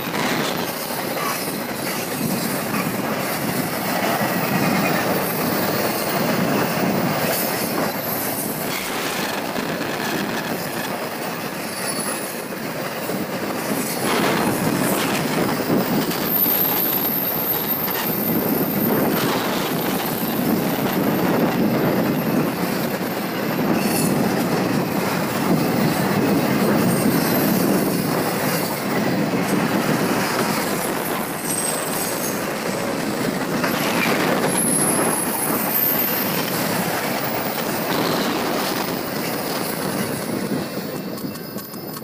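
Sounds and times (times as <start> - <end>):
steel wheels clattering on rail: 0.0 - 42.0.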